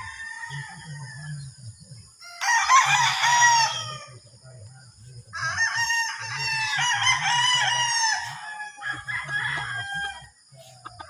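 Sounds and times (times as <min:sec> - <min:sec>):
roosters crowing: 0:00.0 - 0:04.2, 0:05.3 - 0:11.0.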